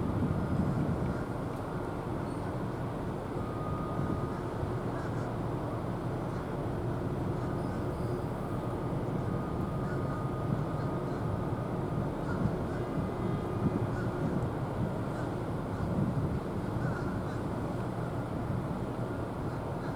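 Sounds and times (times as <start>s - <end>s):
outdoor background rumble: 0.0s - 19.9s.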